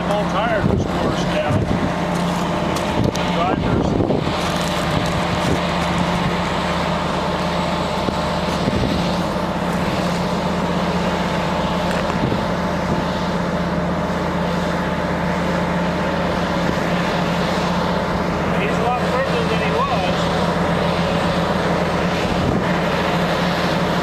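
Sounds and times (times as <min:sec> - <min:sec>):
heavy diesel truck engine: 0:00.0 - 0:24.0.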